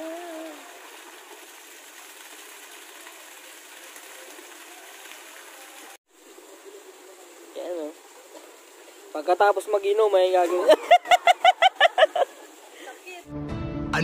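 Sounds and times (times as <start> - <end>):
outdoor background hiss: 0.0 - 13.3.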